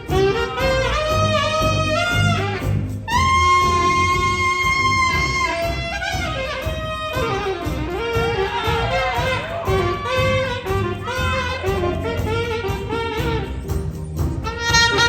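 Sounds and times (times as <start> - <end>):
bass guitar: 0.0 - 15.0
piano: 0.0 - 15.0
saxophone section playing jazz: 0.0 - 15.0.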